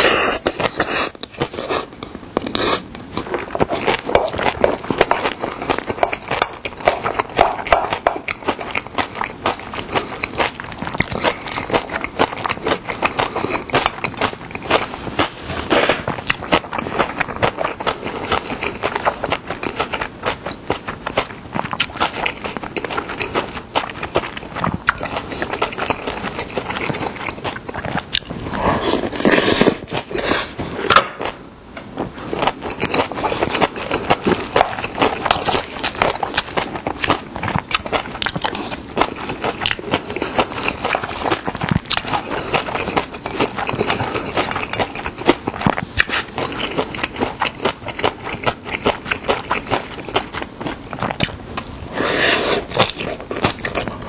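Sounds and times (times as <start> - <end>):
chewing with wet crunches: 0.0 - 31.4, 32.3 - 54.0.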